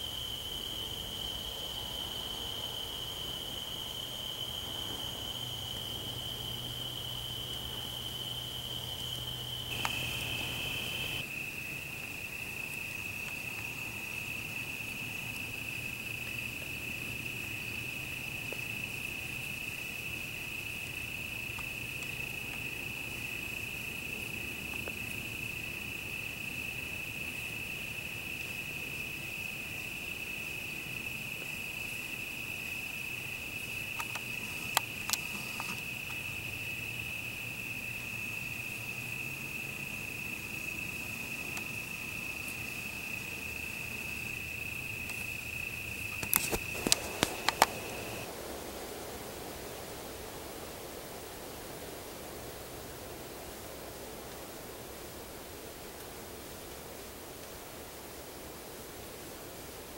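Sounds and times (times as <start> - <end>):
higher cricket trill: 0.0 - 48.3
crickets trilling: 0.0 - 59.9.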